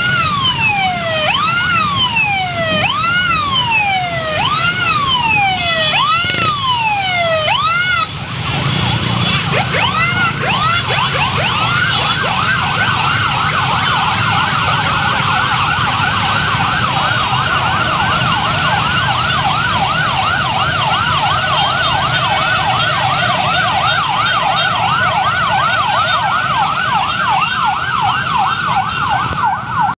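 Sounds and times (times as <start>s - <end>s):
motorcycle engines rumbling: 0.0s - 29.9s
electronic sirens wailing: 0.0s - 30.0s
fast siren yelp: 0.0s - 30.0s.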